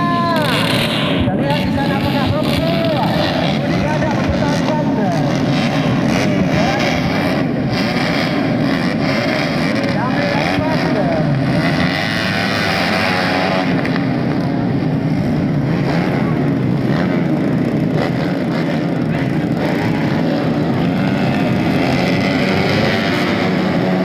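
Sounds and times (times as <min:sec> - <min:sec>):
dirt bikes revving: 0:00.0 - 0:24.0.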